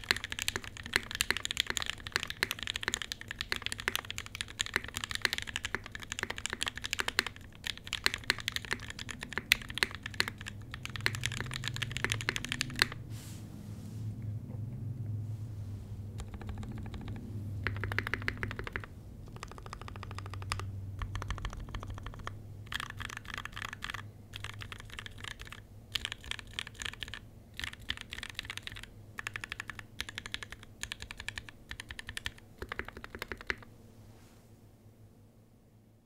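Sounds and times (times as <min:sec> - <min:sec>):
mechanical keyboard typing: 0:00.0 - 0:13.0, 0:16.2 - 0:33.7.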